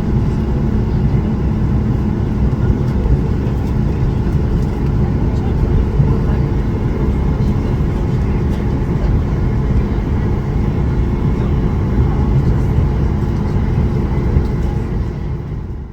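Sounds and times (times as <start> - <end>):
aircraft cabin rumble: 0.0 - 15.9.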